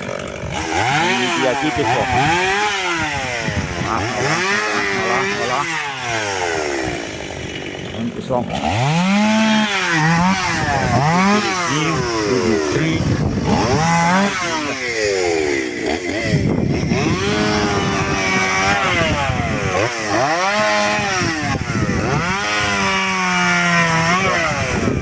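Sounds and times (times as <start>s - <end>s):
chainsaw cutting wood revving: 0.0s - 25.0s.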